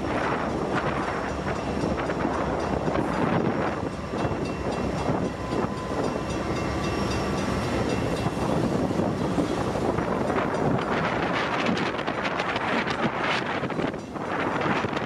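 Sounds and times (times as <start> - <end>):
freight train rumbling past: 0.0 - 15.0
steel wheels clattering on rails: 0.0 - 15.0.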